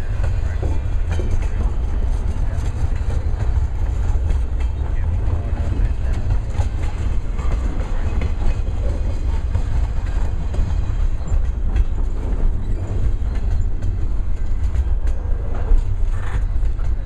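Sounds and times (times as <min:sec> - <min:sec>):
train wheels rumbling on rail: 0:00.0 - 0:17.0
wheels clicking over rail joints: 0:00.0 - 0:17.0.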